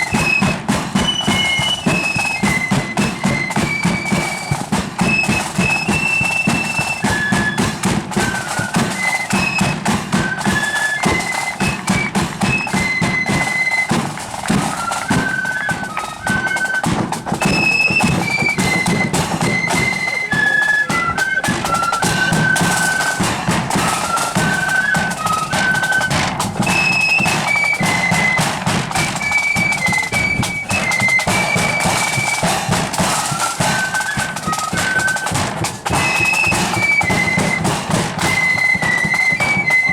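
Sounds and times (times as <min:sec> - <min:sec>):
flute melody: 0:00.0 - 0:39.9
steady drumming: 0:00.0 - 0:39.9.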